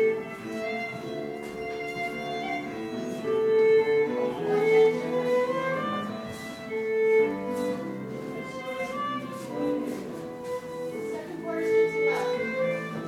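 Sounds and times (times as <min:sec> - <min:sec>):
fiddle melody: 0:00.0 - 0:13.0.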